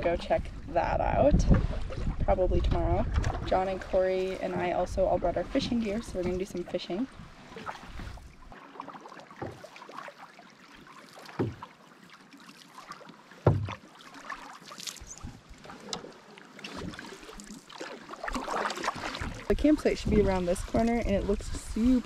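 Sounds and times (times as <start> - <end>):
paddles dipping: 0.0 - 22.0
water lapping against hull: 0.0 - 22.0.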